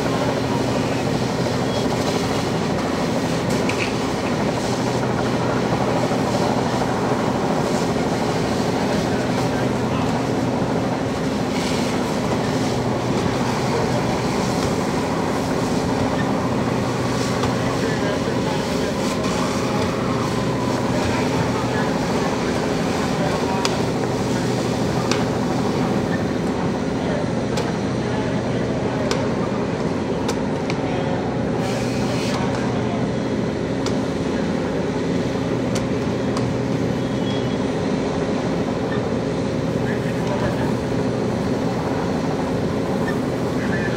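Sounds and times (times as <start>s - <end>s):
fire engine motor droning: 0.0s - 43.9s.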